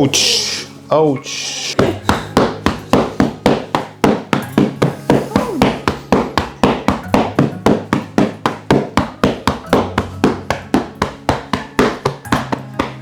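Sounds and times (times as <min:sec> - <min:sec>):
background music: 0:00.0 - 0:13.0
percussive strikes on body: 0:01.8 - 0:13.0.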